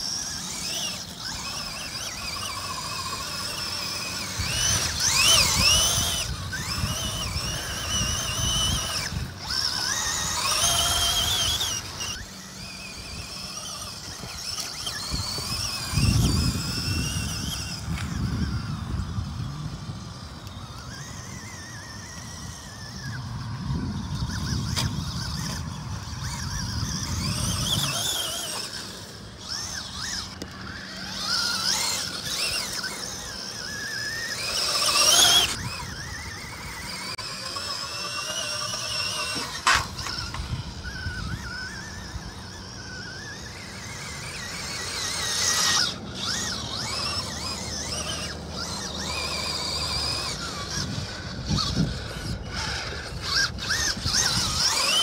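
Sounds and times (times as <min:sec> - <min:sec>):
electric toy truck motor whining: 0:00.0 - 0:55.0.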